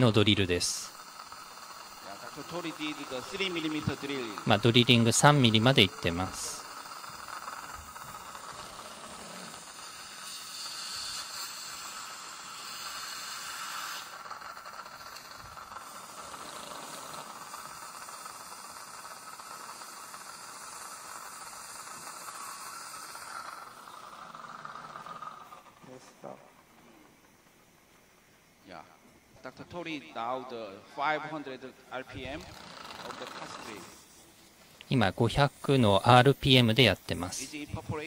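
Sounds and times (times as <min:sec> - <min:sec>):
hiss of surgical suction: 0:00.0 - 0:27.3, 0:31.4 - 0:38.0
slow drill cutting bone: 0:00.0 - 0:27.4, 0:31.9 - 0:35.0.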